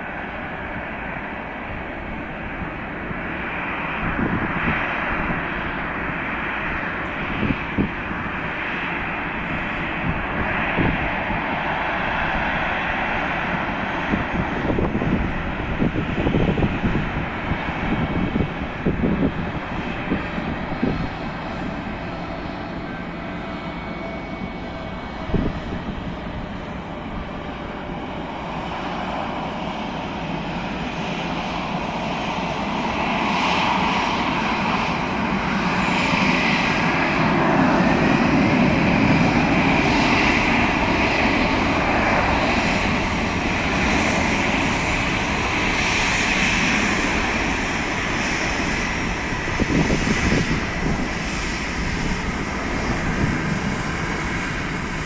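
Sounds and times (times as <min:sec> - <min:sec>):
jet engines at takeoff thrust: 0:00.0 - 0:55.0.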